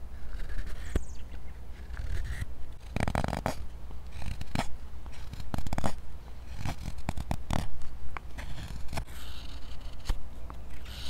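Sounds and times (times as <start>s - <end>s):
knife scraping wood: 0.2s - 11.0s.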